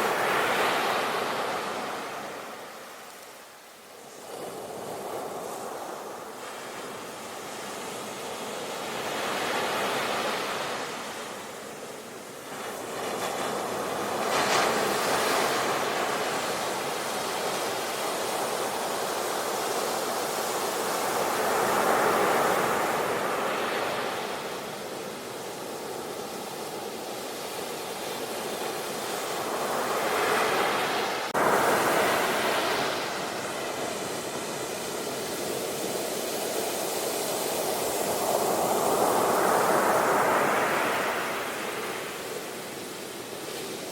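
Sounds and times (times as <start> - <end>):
sea waves washing ashore: 0.0 - 43.9.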